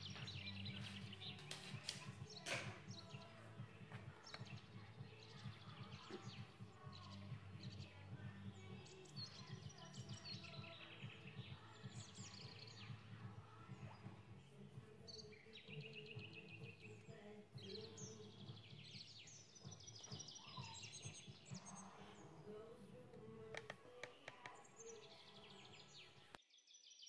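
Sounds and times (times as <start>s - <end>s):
birds chirping and trilling: 0.0s - 27.0s.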